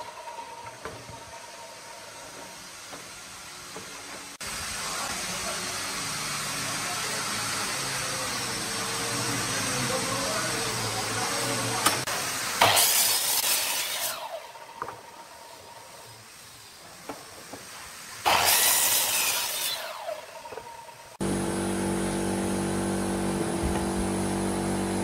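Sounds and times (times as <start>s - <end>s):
saw blade winding down: 0.0s - 16.8s, 18.2s - 23.4s
miter saw cutting wood: 0.0s - 17.2s, 18.2s - 25.0s.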